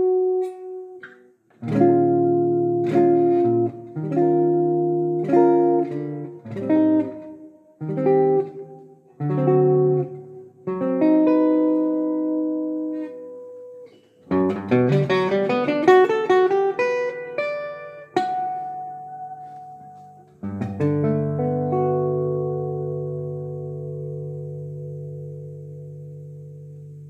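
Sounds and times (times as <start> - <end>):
acoustic guitar jazz ballad: 0.0 - 27.0.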